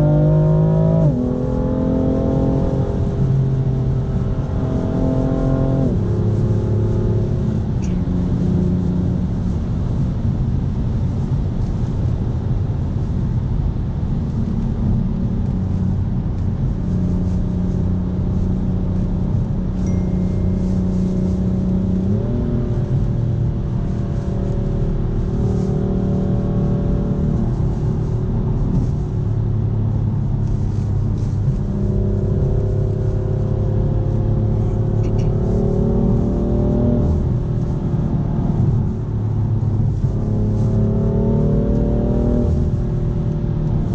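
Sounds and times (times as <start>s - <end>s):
car engine from inside cabin: 0.0s - 43.9s
road and tyre noise: 0.0s - 43.9s.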